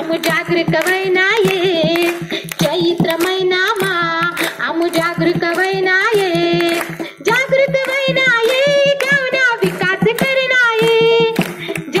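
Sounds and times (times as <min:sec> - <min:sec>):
percussive beat: 0:00.0 - 0:12.0.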